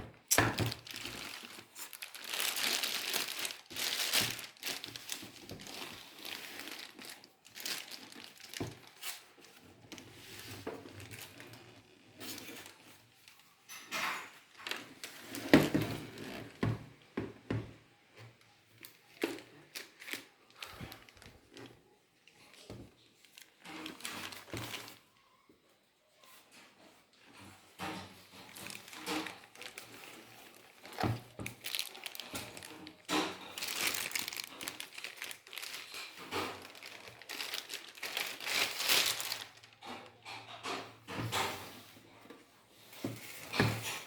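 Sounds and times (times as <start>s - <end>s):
packaging crinkling and rustling: 0.0s - 16.8s, 18.4s - 25.4s, 26.2s - 44.0s.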